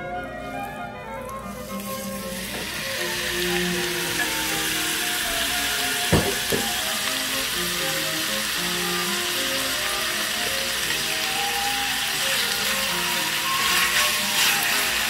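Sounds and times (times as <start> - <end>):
melodic background music: 0.0 - 15.0
meat sizzling in a pan: 1.5 - 15.0.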